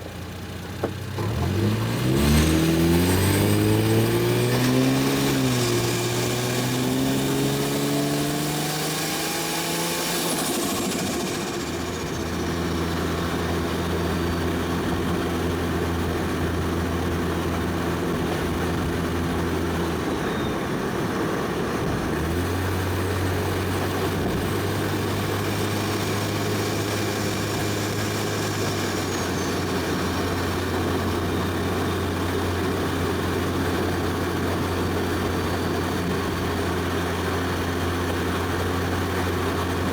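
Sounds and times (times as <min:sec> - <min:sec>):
car engine revving: 0:01.0 - 0:39.9.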